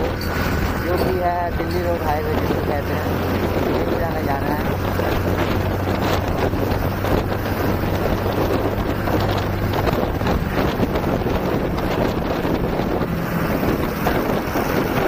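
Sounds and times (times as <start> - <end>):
motorcycle engine low hum: 0.0 - 15.0
wind buffeting microphone: 0.0 - 15.0.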